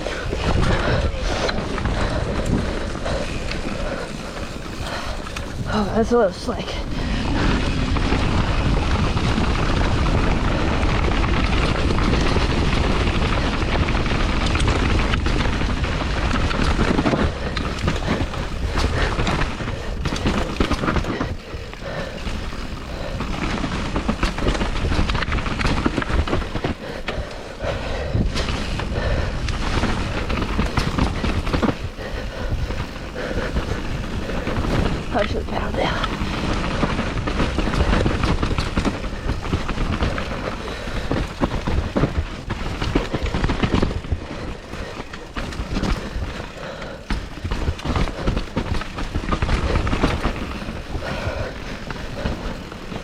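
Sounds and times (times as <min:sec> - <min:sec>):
bike knocking and rattling: 0:00.0 - 0:53.0
wind rushing over microphone: 0:00.0 - 0:53.0.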